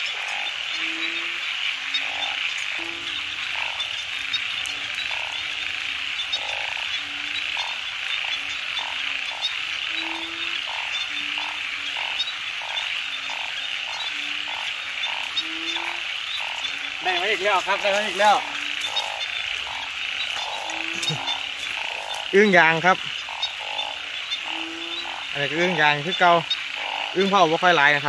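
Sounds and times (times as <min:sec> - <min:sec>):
frog calls pulsing: 0:00.0 - 0:28.0
frogs croaking: 0:00.0 - 0:28.0.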